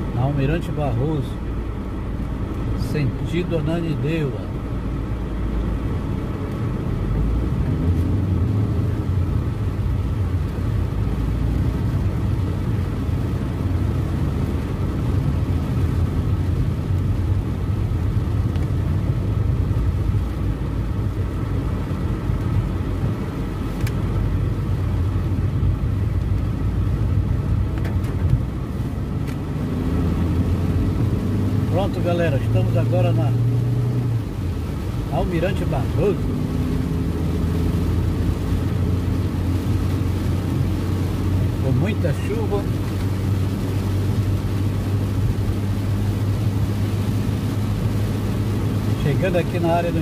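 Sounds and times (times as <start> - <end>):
car engine and tyre noise: 0.0 - 50.0.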